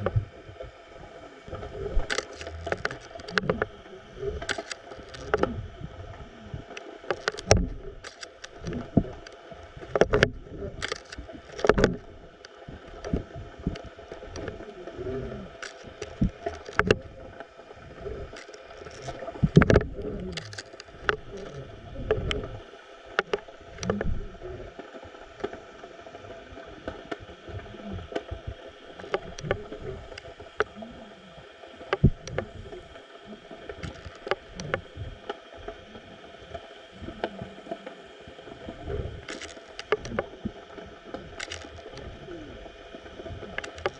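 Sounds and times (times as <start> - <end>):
underwater multi-toned hum: 0.0 - 43.9.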